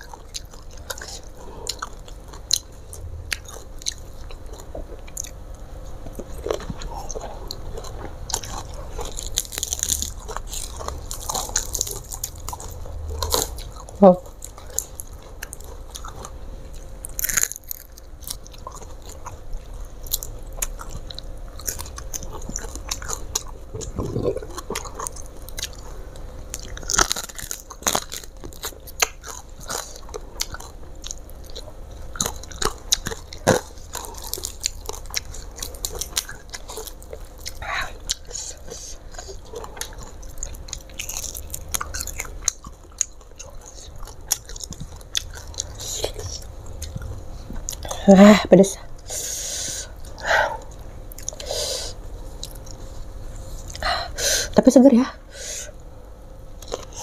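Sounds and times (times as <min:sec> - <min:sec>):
chewing crispy food: 0:00.0 - 0:54.2, 0:55.6 - 0:57.0.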